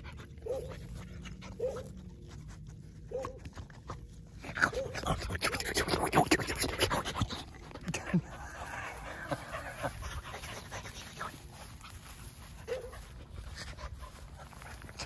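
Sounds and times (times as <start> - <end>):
dog sniffing and panting: 0.0 - 15.0
rustling of petting: 0.0 - 15.0.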